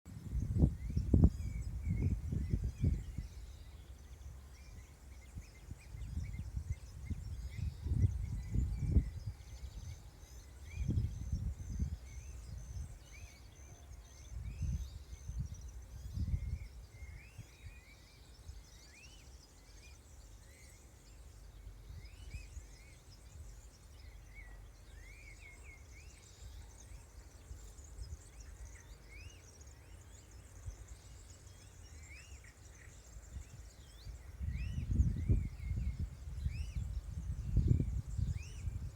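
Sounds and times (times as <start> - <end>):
small birds chirping: 0.1 - 38.9.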